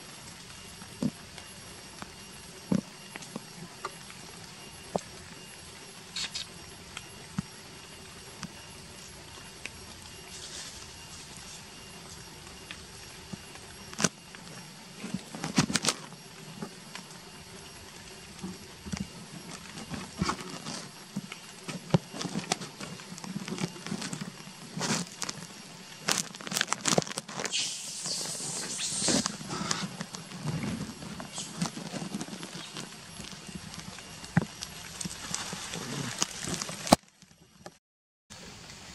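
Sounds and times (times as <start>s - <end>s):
crackling and rustling: 6.1s - 37.8s.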